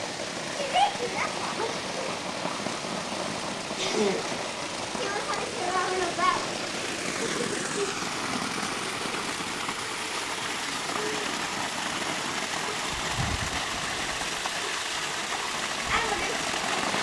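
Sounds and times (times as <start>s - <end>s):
water pouring into a pool: 0.0s - 17.0s.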